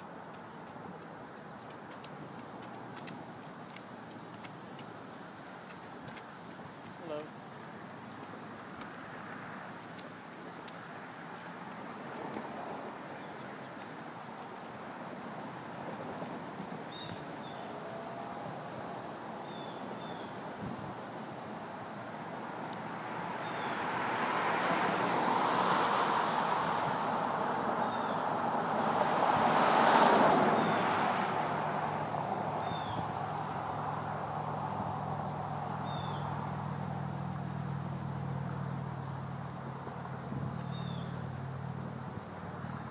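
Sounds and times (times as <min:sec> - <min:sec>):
insect chorus chirping: 0:00.0 - 0:42.9
vehicles passing on road: 0:00.0 - 0:42.9.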